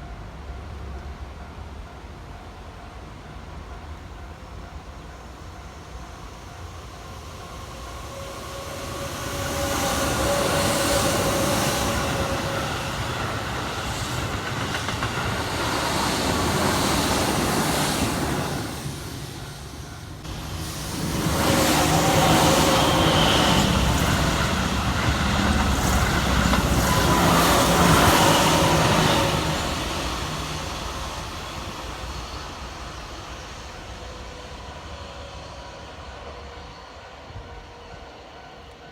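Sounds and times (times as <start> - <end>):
electric train passing: 0.0 - 38.9.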